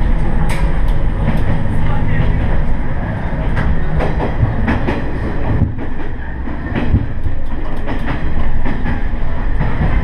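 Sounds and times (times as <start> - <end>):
railcar engine rumble: 0.0 - 10.0
wheels clacking on track: 0.0 - 10.0.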